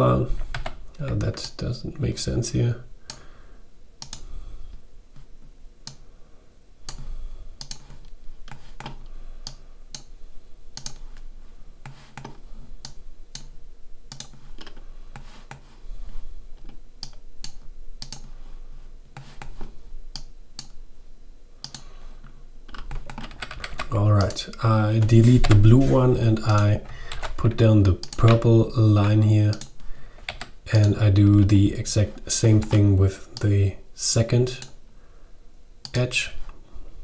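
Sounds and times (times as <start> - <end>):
faint low hum: 0.0 - 37.0.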